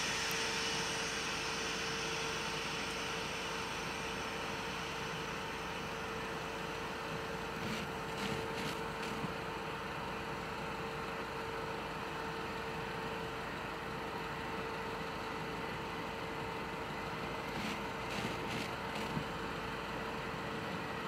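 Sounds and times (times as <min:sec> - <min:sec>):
streetcar electric hum: 0:00.0 - 0:21.0.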